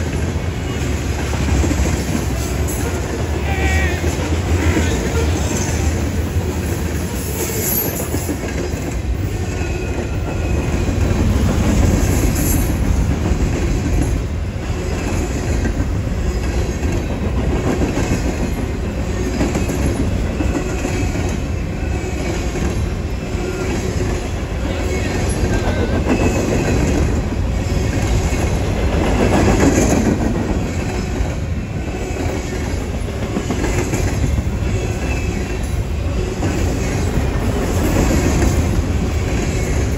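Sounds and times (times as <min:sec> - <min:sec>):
rail clack: 0:00.0 - 0:39.9.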